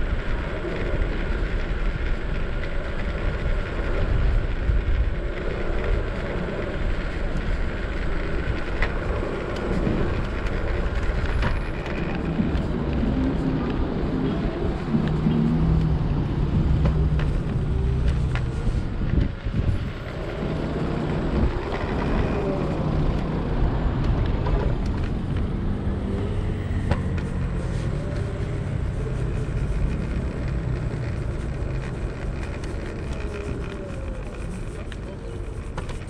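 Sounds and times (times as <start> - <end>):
road traffic: 0.0 - 36.0
scooter rumbling over pavement: 0.0 - 36.0.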